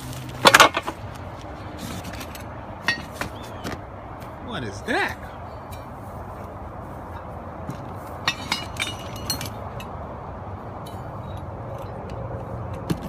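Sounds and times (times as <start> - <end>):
metal tent poles clinking: 0.0 - 3.7, 5.5 - 10.1, 10.8 - 13.0.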